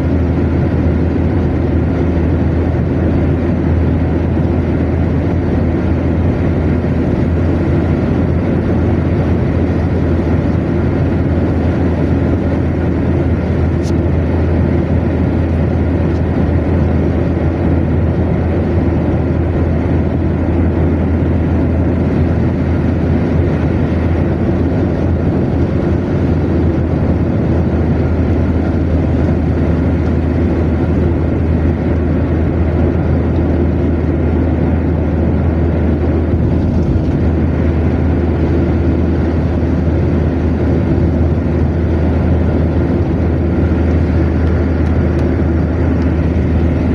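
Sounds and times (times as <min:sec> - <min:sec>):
low engine drone: 0:00.0 - 0:46.9
tyre and road noise: 0:02.7 - 0:46.9.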